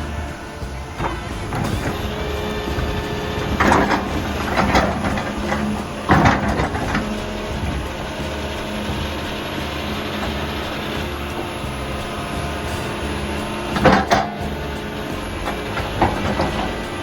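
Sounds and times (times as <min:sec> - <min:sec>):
heavy diesel machine running: 0:00.0 - 0:17.0
loud crunching bursts: 0:00.0 - 0:17.0.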